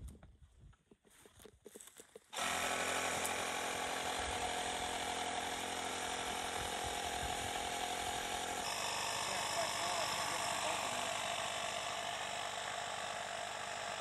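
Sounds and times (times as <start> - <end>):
air compressor running: 2.4 - 14.0.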